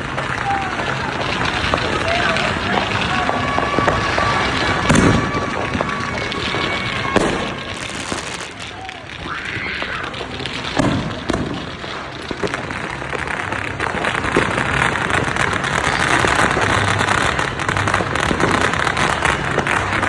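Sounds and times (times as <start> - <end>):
fireworks crackling and banging: 0.0 - 20.0
heavy firework booms: 0.0 - 20.0.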